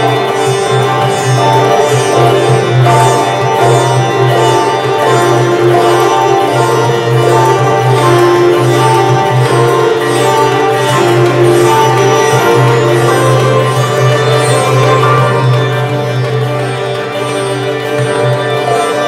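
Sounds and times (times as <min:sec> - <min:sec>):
sitar playing slow melody: 0:00.0 - 0:19.0.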